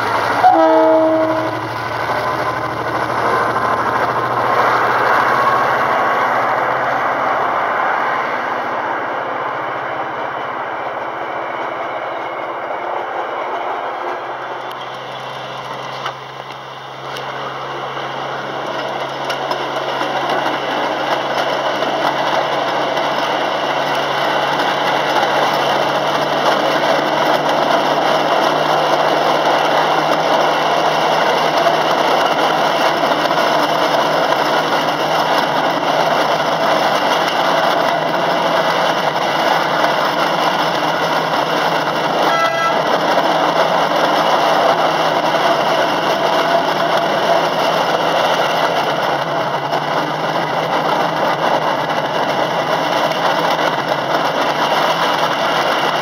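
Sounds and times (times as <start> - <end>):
train wheel and track rumble: 0.0 - 56.0.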